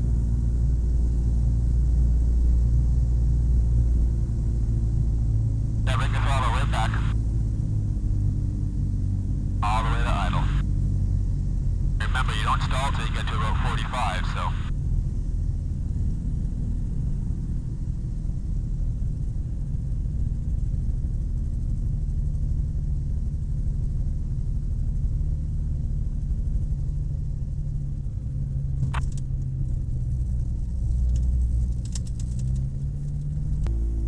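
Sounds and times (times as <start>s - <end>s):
ultralight engine rumbling: 0.0s - 34.0s.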